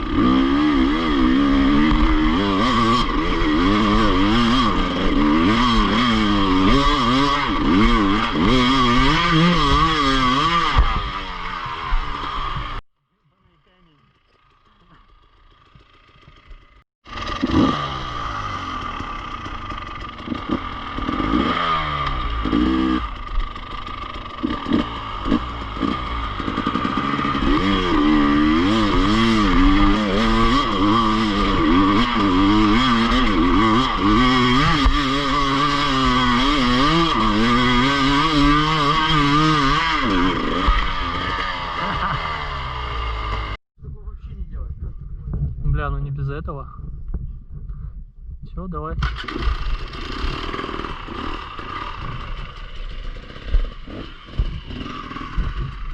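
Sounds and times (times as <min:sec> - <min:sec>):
motorcycle engine revving: 0:00.0 - 0:12.8, 0:13.8 - 0:43.6, 0:49.0 - 0:55.9.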